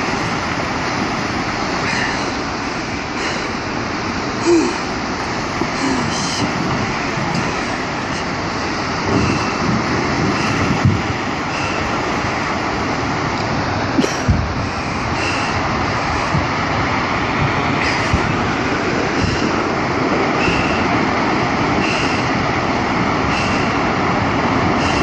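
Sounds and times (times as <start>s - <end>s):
seawater rushing over rocks: 0.0s - 25.0s.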